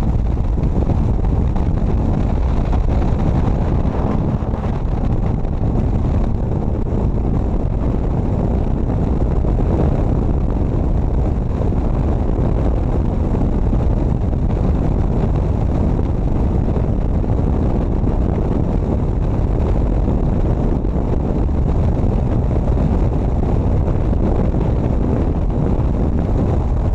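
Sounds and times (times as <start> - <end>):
motorcycle engine cruising: 0.0 - 26.9
wind buffeting microphone: 0.0 - 26.9.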